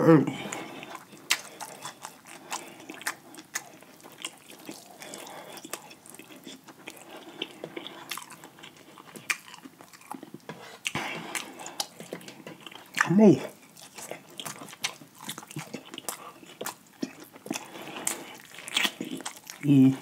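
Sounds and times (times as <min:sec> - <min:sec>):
chewing fried chicken: 0:00.3 - 0:20.0.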